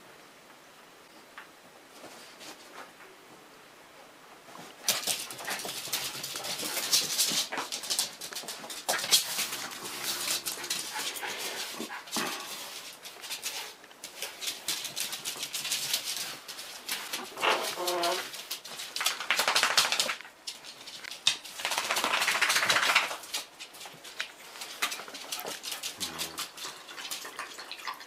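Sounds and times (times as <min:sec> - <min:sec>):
dogs playing and scuffling: 0:01.9 - 0:03.1, 0:04.3 - 0:28.0.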